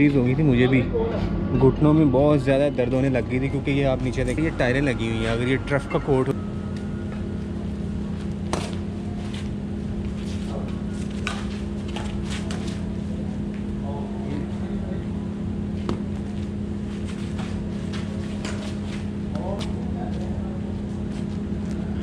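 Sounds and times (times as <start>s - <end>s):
air conditioning hum: 0.0s - 22.0s.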